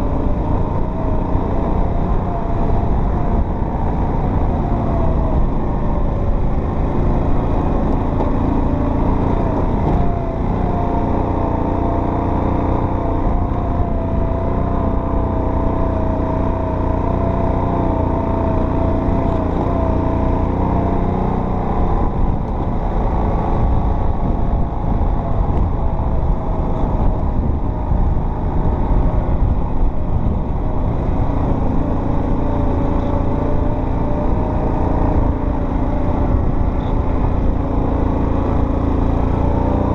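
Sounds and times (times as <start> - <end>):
off-road vehicle engine rumbling: 0.0 - 39.9.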